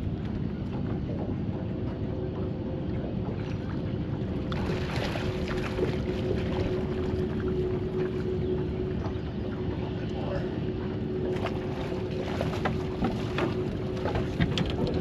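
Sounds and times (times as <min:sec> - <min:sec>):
boat motor humming: 0:00.0 - 0:15.0
water and wind noise: 0:00.0 - 0:15.0.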